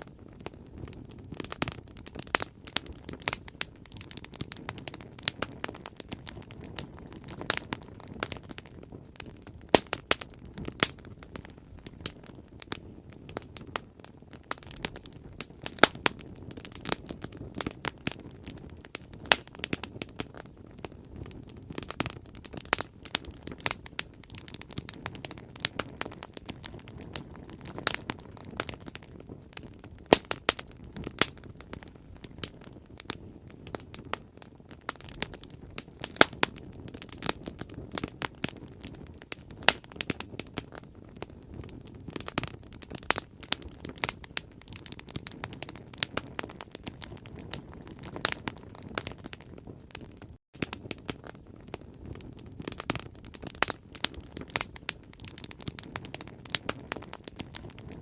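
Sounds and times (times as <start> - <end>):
bonfire crackling and popping: 0.0 - 58.0
flames rushing: 0.0 - 58.0.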